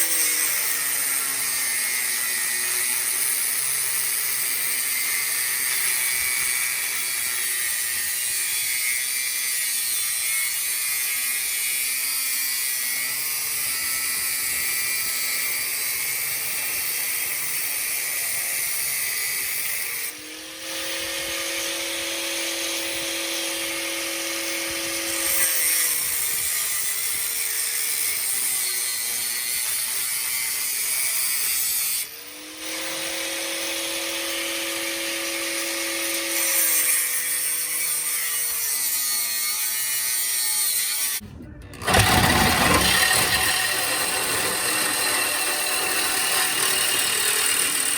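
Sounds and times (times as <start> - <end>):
angle grinder cutting metal pipe: 0.0 - 47.9.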